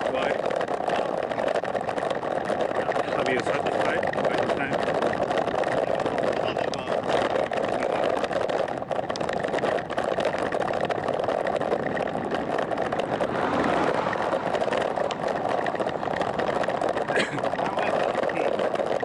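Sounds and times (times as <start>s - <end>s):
bicycle tyre noise: 0.0s - 19.0s
wind rush on microphone: 0.0s - 19.0s.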